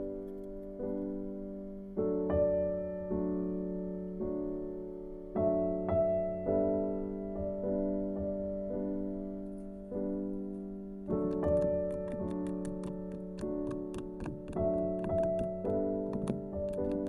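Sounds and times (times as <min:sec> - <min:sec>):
soft slow piano chords: 0:00.0 - 0:17.0.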